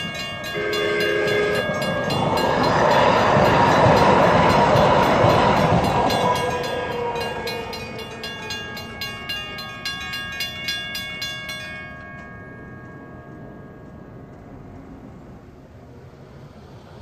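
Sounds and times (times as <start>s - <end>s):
crossing bells ringing: 0.0s - 16.0s
light-rail train passing: 0.0s - 17.0s.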